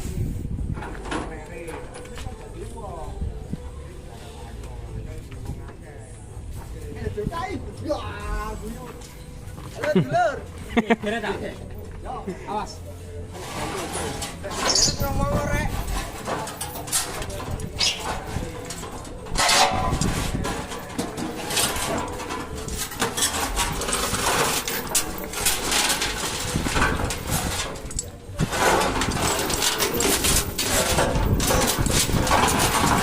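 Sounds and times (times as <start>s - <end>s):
metal clanks and rattles: 0.6s - 3.0s, 8.1s - 33.0s.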